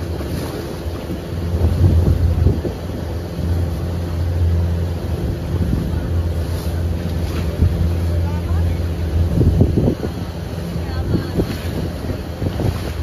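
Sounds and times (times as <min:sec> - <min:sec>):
motorboat engine droning: 0:00.0 - 0:13.0
water splashing against hull: 0:00.0 - 0:13.0
wind buffeting microphone: 0:00.0 - 0:13.0.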